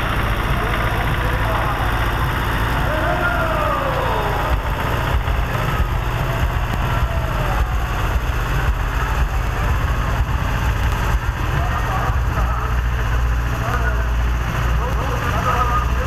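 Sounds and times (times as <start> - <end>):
tractor engine running at low revs: 0.0 - 16.0.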